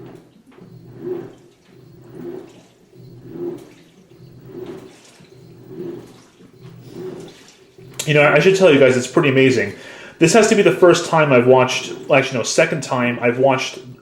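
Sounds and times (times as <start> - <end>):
washing machine sloshing water: 0.0 - 14.0.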